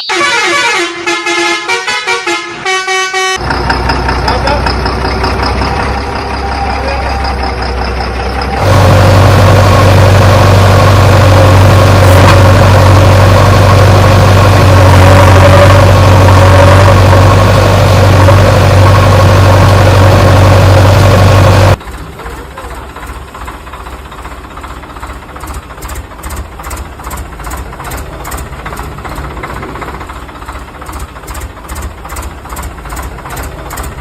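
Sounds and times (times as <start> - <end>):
heavy truck engine running: 0.7 - 34.0.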